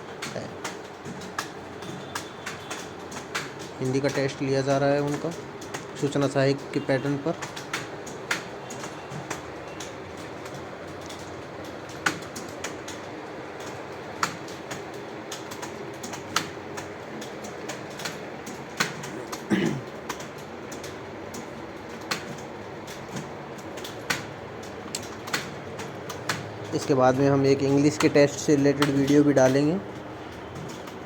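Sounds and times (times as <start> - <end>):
people typing on keyboards: 0.0 - 31.0
steady room hum: 0.0 - 31.0.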